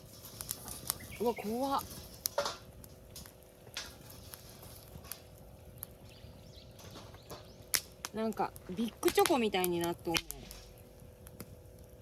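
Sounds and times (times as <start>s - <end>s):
campfire crackling: 0.0s - 12.0s
wood popping: 0.0s - 12.0s.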